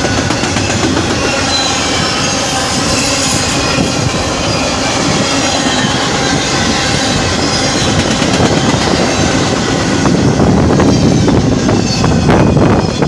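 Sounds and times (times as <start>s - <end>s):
high wheel squeal: 0.0s - 13.0s
train wheels rumbling on rail: 0.0s - 13.0s.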